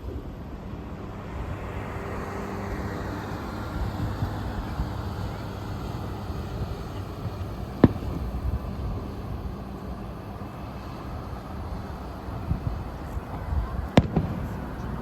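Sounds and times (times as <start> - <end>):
low outdoor rumble: 0.0 - 15.0
firework bang: 1.4 - 15.0.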